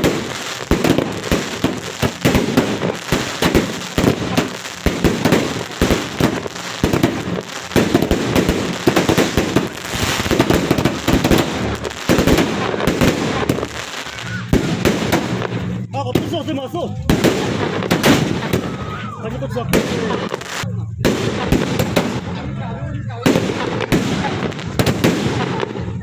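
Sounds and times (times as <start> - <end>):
fireworks and firecrackers banging: 0.0 - 26.0.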